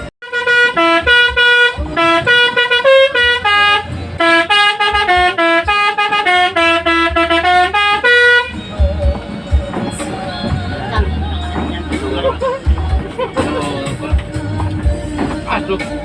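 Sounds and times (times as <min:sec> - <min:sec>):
multi-tone bus horn melody: 0:00.0 - 0:16.0.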